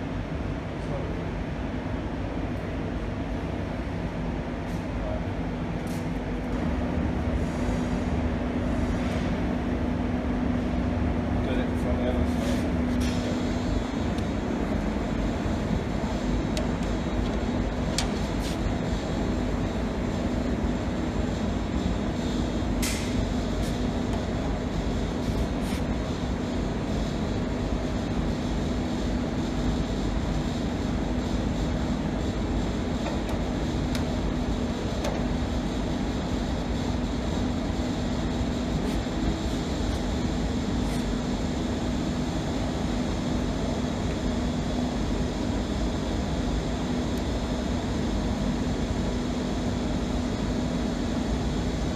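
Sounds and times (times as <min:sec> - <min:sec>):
machine hum with hiss: 0:00.0 - 0:51.9.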